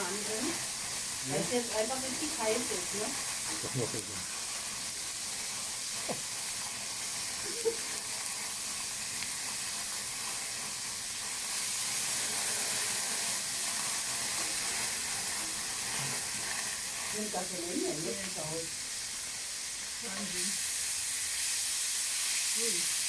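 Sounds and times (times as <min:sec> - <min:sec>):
meat sizzling in a hot pan: 0:00.0 - 0:23.0.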